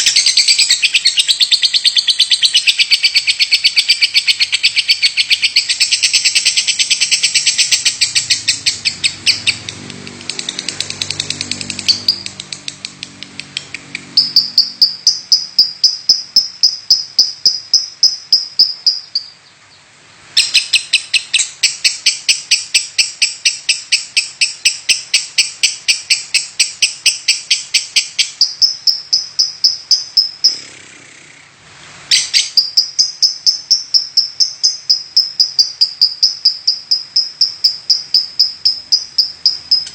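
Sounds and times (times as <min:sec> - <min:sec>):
lovebird chirping: 0:00.0 - 0:31.4, 0:32.1 - 0:39.9.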